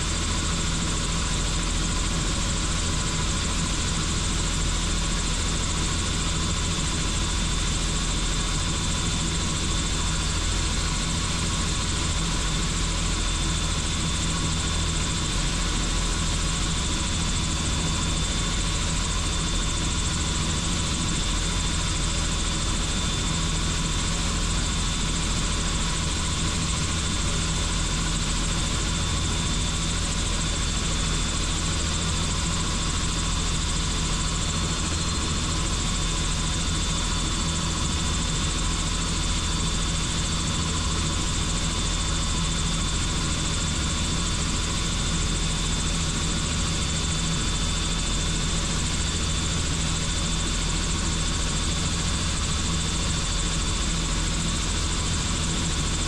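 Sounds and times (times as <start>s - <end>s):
helicopter engine and rotor: 0.0s - 56.0s.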